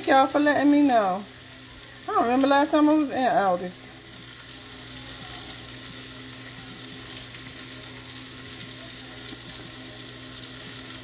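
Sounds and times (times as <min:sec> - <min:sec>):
food sizzling in pans: 0:00.0 - 0:11.0.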